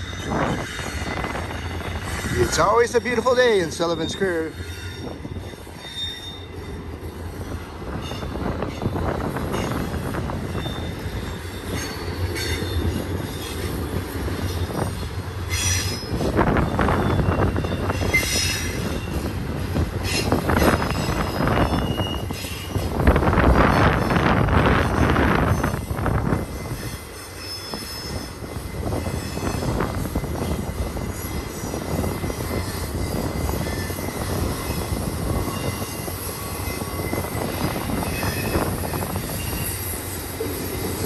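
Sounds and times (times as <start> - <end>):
train wheels rumbling on rail: 0.0 - 41.0
high-pitched wheel squeals: 3.9 - 6.8, 7.4 - 13.7, 15.5 - 19.3, 20.0 - 23.0, 23.6 - 41.0.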